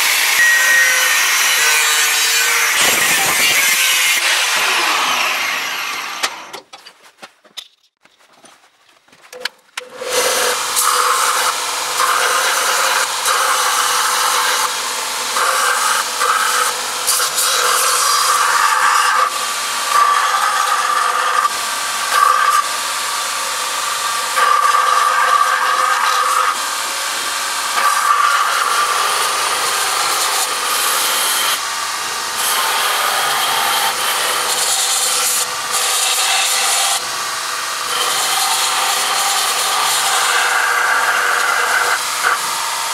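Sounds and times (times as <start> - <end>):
belt sander grinding steel: 0.0 - 6.6, 9.9 - 42.9.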